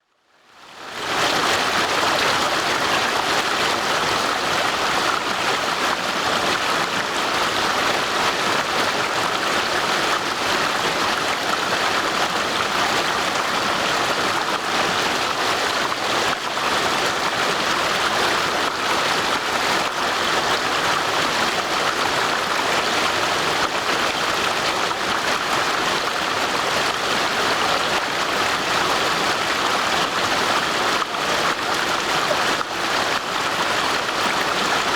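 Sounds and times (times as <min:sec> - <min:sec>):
stream rushing over stones: 0:00.7 - 0:34.9.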